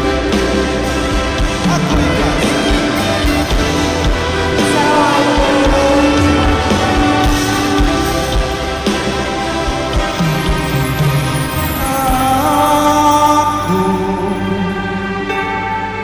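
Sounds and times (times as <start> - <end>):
drum kit: 0.0 - 14.2
electronic keyboard melody: 0.0 - 16.0
live band music: 0.0 - 16.0.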